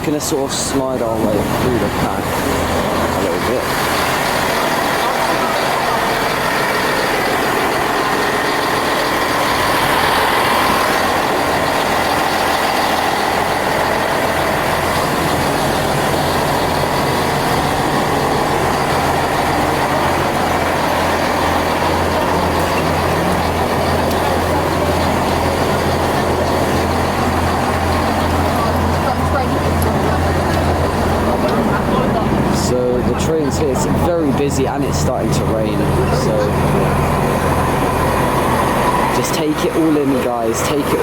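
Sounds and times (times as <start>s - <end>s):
diesel train engine idling: 0.0s - 41.0s.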